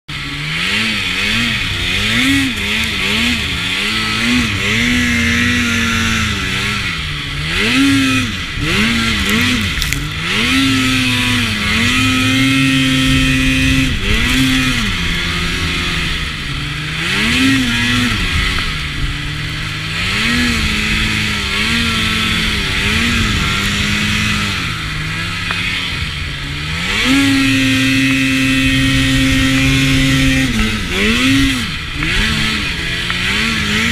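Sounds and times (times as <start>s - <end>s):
snowmobile engine revving: 0.1s - 33.9s.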